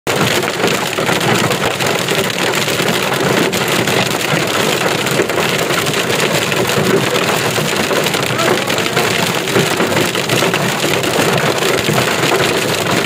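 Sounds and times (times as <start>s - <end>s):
hail and rain on car roof: 0.1s - 13.0s.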